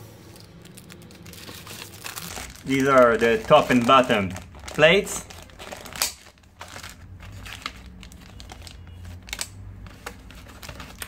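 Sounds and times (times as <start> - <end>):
plastic bags crinkling: 0.2 - 11.0.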